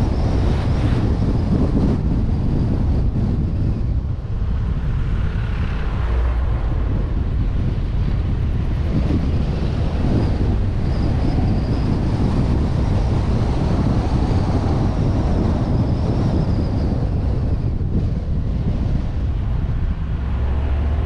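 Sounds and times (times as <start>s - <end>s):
vehicle engine and road rumble: 0.0s - 21.0s
wind buffeting microphone: 0.0s - 21.0s.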